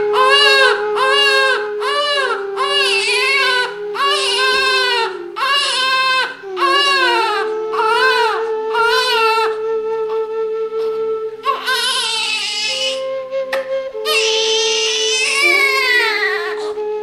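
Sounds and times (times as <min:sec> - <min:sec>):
held musical drone: 0:00.0 - 0:17.0
high wailing cries: 0:00.1 - 0:09.6, 0:11.4 - 0:13.0, 0:14.0 - 0:16.8.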